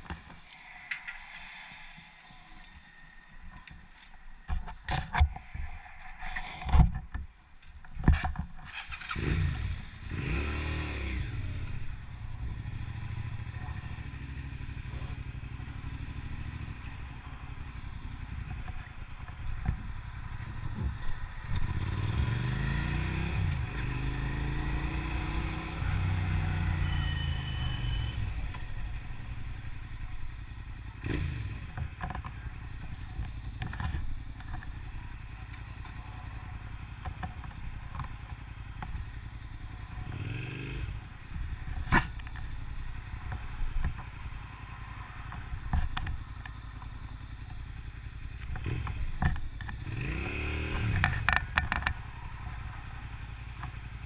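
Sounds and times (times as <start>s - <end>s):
motorcycle engine revving: 8.1s - 54.0s.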